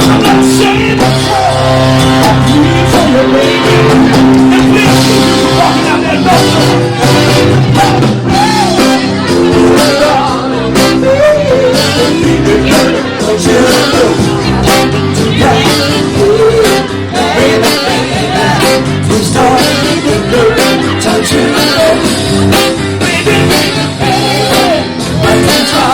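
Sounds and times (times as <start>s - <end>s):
drum beat: 0.0s - 25.9s
live band playing: 0.0s - 25.9s
person singing: 0.0s - 25.9s.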